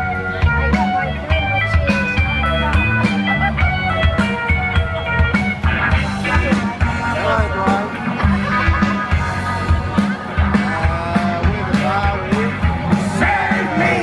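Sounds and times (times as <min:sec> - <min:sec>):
drum kit beat: 0:00.0 - 0:14.0
guitar melody with bending notes: 0:00.0 - 0:14.0.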